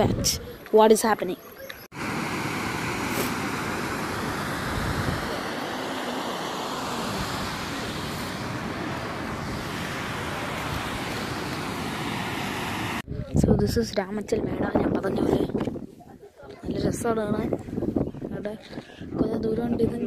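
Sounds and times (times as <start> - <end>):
wind blowing across microphone: 0.0 - 0.7, 2.0 - 20.0.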